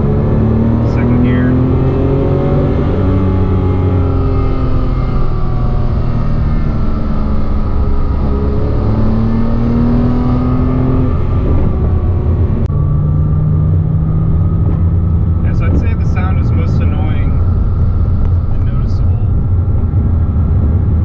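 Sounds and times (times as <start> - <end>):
car engine running: 0.0 - 21.0
high-pitched whine: 0.0 - 21.0.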